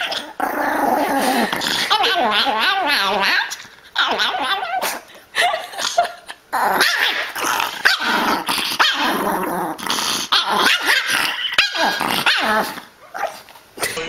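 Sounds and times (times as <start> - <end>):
dog growling and barking: 0.0 - 5.1, 5.7 - 13.6.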